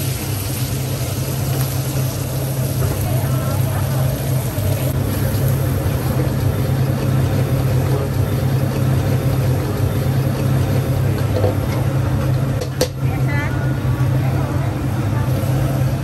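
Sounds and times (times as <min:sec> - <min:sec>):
oil sizzling in wok: 0:00.0 - 0:13.1, 0:15.3 - 0:16.0
gas stove roaring: 0:00.0 - 0:16.0.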